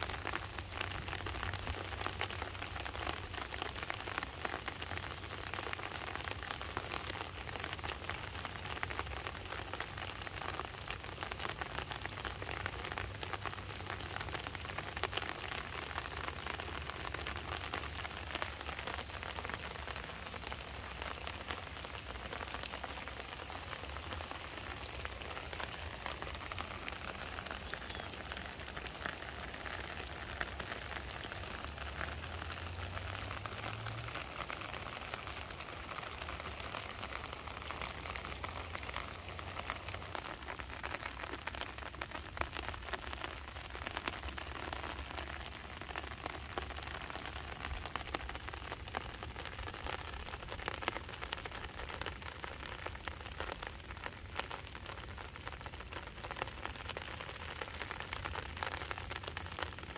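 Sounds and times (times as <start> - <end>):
rain pattering on water: 0.0 - 59.9.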